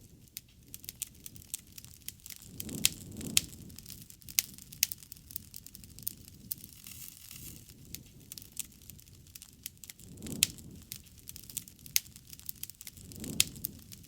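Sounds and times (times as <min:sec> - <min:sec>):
low rush of flame: 0:00.0 - 0:14.0
wood fire crackling and popping: 0:00.0 - 0:14.0.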